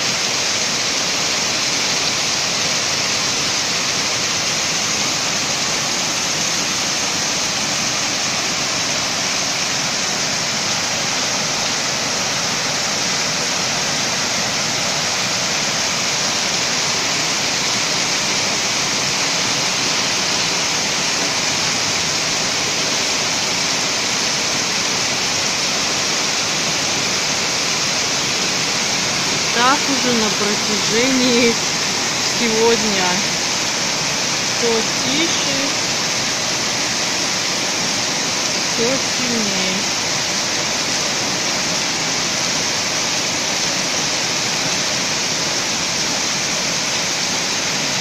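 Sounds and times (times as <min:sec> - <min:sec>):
rainwater running down steps: 0:00.0 - 0:48.0
torrential rain on roofs: 0:00.0 - 0:48.0.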